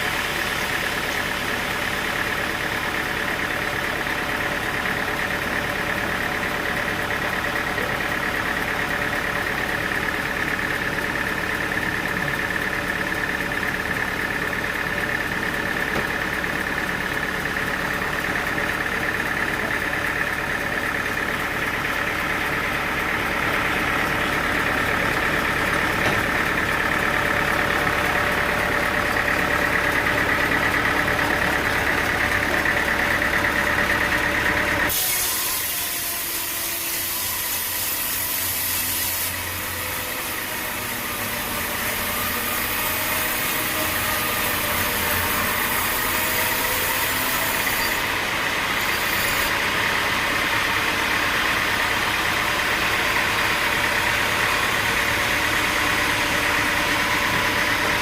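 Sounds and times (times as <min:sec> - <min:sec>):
sawmill engine with high whine: 0:00.0 - 0:58.0.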